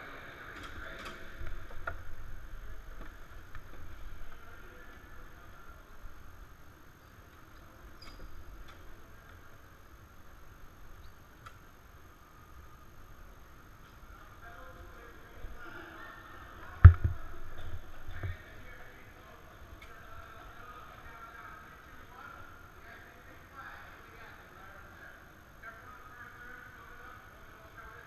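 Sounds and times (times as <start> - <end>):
indoor hall noise: 0.0 - 28.0.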